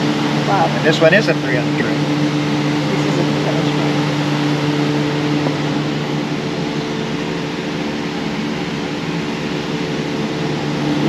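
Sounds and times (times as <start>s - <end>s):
air-handling system hum and rush: 0.0s - 11.0s.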